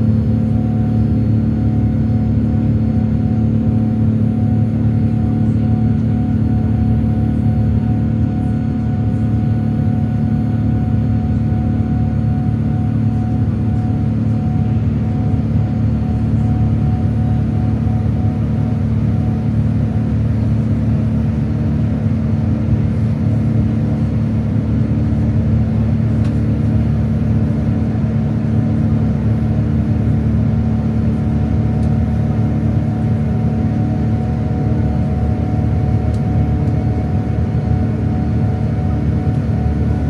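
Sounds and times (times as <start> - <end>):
constant hum: 0.0 - 40.0
airliner cabin rumble: 0.1 - 40.0.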